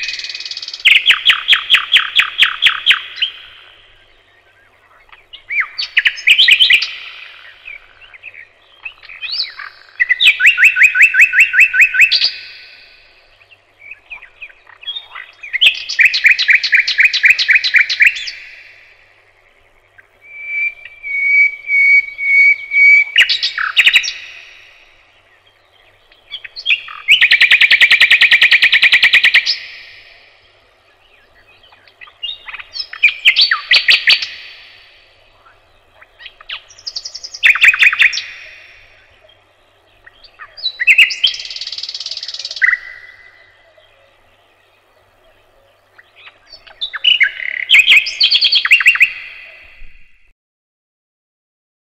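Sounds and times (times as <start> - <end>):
songbird trilling: 0.0 - 50.2.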